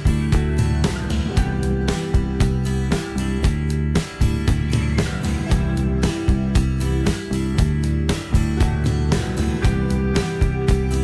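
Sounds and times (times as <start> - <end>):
guitar-led music with steady beat: 0.0 - 11.0.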